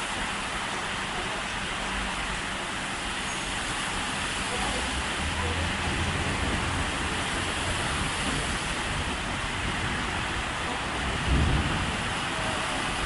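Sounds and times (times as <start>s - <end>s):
floodwater rushing: 0.0s - 13.0s
heavy rain: 0.0s - 13.0s.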